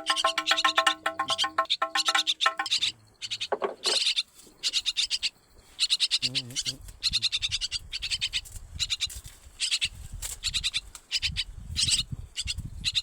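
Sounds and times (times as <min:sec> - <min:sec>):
baby birds chirping: 0:00.0 - 0:13.0.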